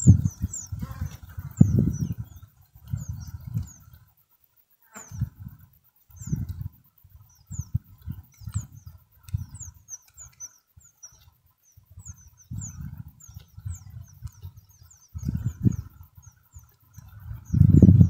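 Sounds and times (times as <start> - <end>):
nestling birds chirping: 0.0 - 18.0.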